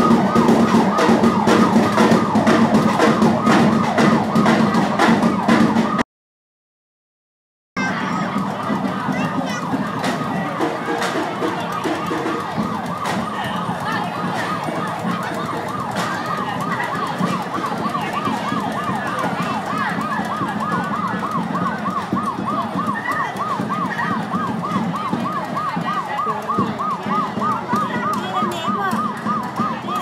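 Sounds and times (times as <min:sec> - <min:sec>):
electronic siren yelping: 0:00.0 - 0:06.0, 0:07.8 - 0:30.0.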